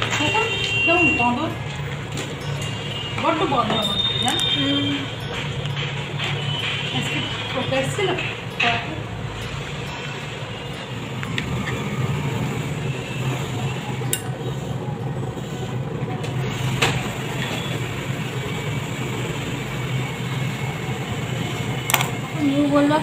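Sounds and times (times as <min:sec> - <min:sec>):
low mechanical drone: 0:01.4 - 0:23.0.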